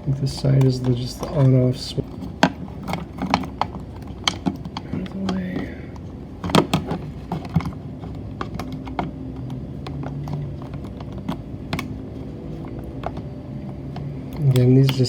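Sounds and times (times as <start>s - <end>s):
plastic and metal clicks and rattles: 0.1s - 15.0s.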